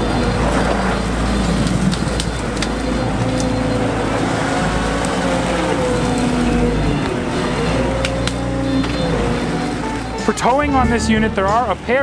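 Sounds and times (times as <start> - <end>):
diesel engine running under load: 0.0 - 12.0
twigs and branches snapping: 0.4 - 10.1.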